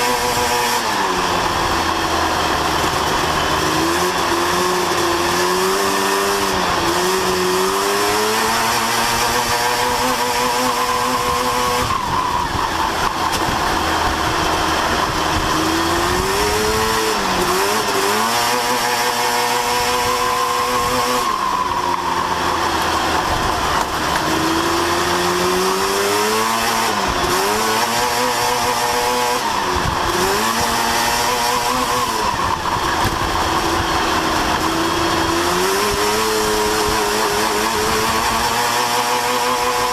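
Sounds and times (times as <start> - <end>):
race truck engine at full throttle: 0.0 - 39.9.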